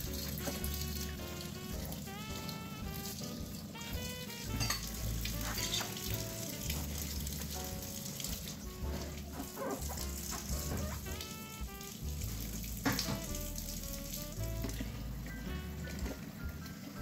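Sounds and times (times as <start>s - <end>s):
background music: 0.0s - 17.0s
dishes being washed: 0.0s - 17.0s
tap water running into sink: 0.0s - 17.0s.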